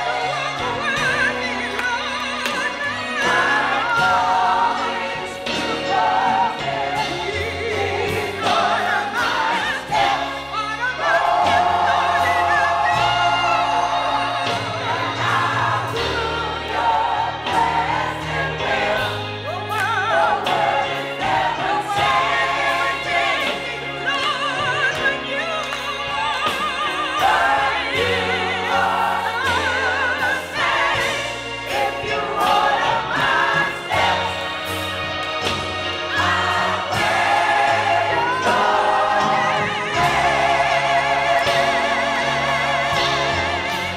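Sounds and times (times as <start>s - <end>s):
church choir singing a hymn: 0.0s - 43.9s.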